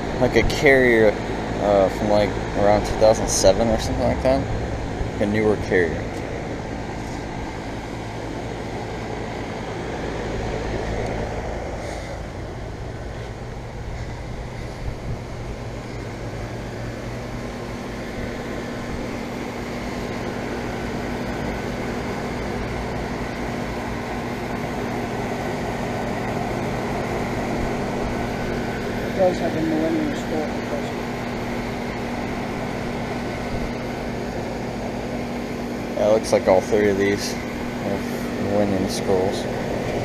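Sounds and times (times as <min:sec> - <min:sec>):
compressor hum: 0:00.0 - 0:40.0
outdoor fans whooshing: 0:00.0 - 0:40.0.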